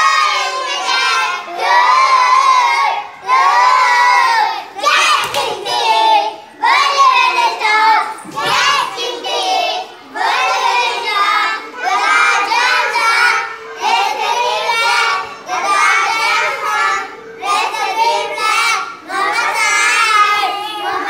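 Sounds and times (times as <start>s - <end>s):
children singing in unison: 0.0s - 21.0s.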